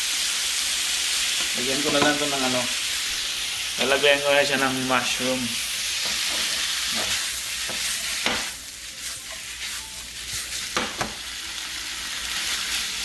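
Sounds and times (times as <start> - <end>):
meat and onions sizzling in pan: 0.0 - 13.0.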